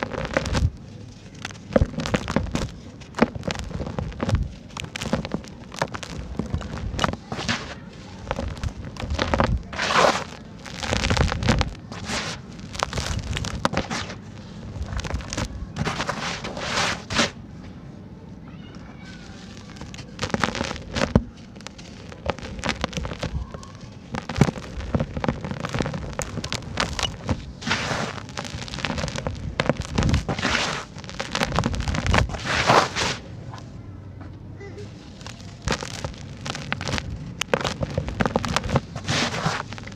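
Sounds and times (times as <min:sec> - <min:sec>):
sand-cement chunks crumbling: 0:00.0 - 0:17.4, 0:19.2 - 0:33.3, 0:34.9 - 0:39.9.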